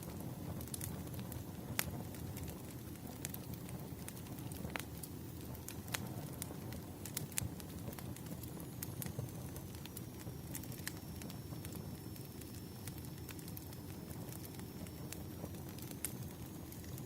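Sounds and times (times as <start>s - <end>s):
fire pops and snaps: 0.0s - 17.0s.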